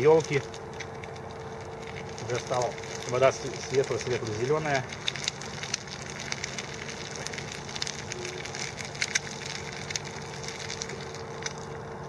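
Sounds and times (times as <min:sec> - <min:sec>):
campfire crackling and popping: 0:00.0 - 0:12.0
faint steady drone: 0:00.0 - 0:12.0.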